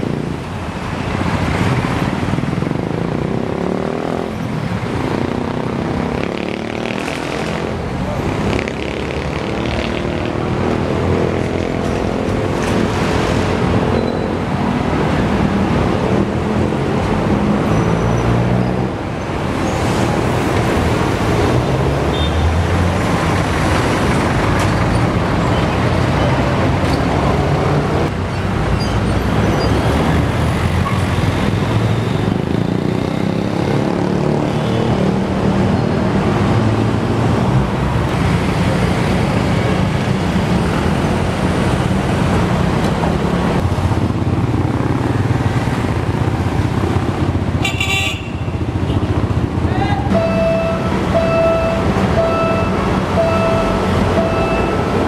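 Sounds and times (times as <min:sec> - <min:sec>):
traffic noise: 0:00.0 - 0:55.0.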